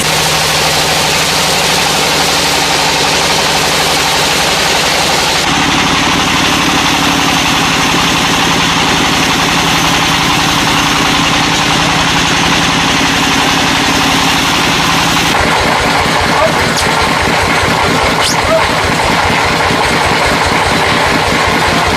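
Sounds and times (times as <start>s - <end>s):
sawmill engine running: 0.0s - 21.9s.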